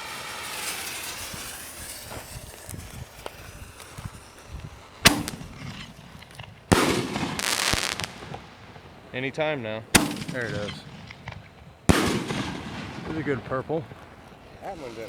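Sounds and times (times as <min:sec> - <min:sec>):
firework bang: 0:00.0 - 0:15.0
firework hissing rush: 0:00.0 - 0:15.0
small firework crackles: 0:00.0 - 0:15.0.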